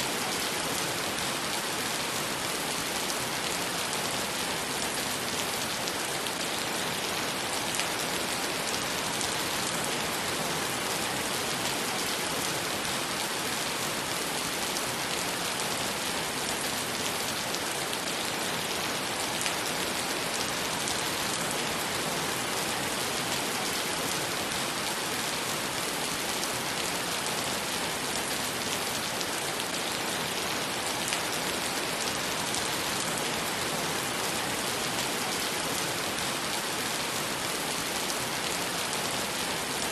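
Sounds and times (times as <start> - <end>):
rain falling on wet pavement: 0.0 - 39.9.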